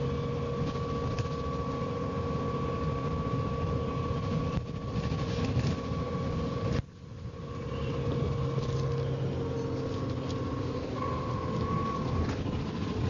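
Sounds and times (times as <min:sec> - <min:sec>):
bus engine rumbling: 0:00.0 - 0:13.0
high axle whine: 0:00.0 - 0:13.0.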